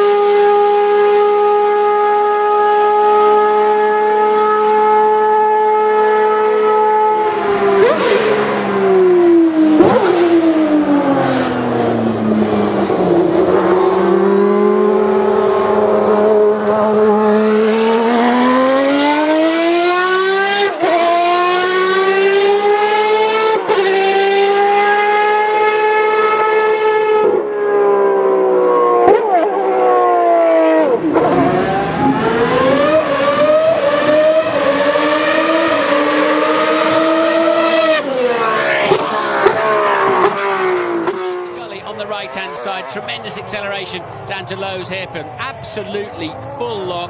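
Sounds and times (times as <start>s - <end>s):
racing car engine at high revs: 0.0s - 47.0s.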